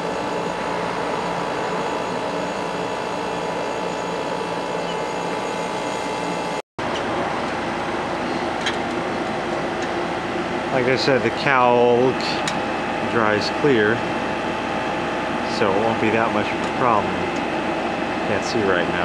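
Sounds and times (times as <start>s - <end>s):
air conditioner running: 0.0s - 19.0s.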